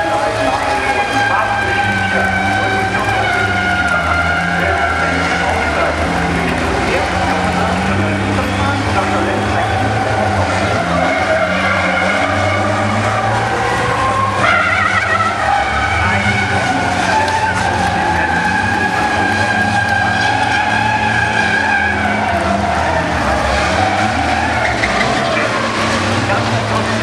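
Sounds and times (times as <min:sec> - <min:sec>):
diesel truck engines racing: 0:00.0 - 0:27.0.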